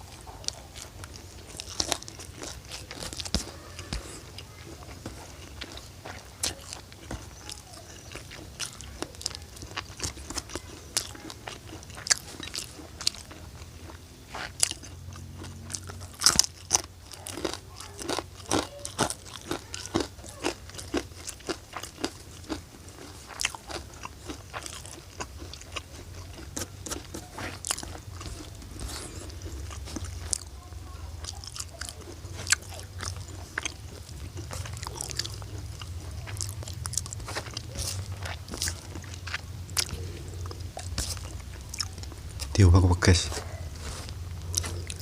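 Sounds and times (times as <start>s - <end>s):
person chewing crunchy food: 0.0s - 45.0s.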